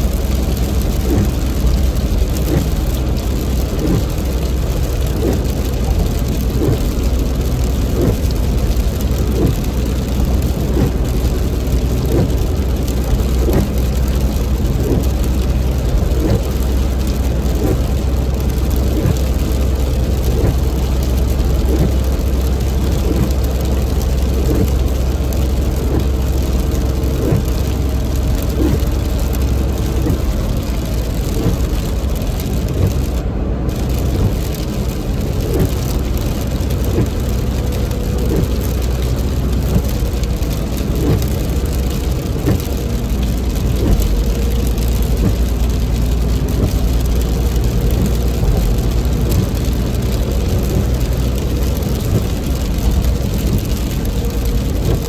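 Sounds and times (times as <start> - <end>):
car tyres and engine rumble: 0.0 - 55.0
rain on a car: 0.0 - 55.0.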